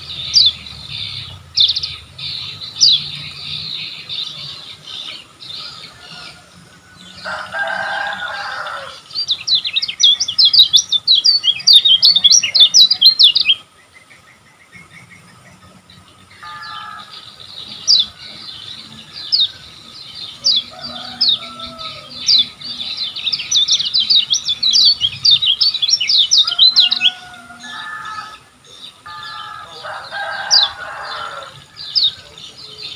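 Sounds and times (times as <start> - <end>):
bird singing rapid high chirps: 0.0 - 32.9.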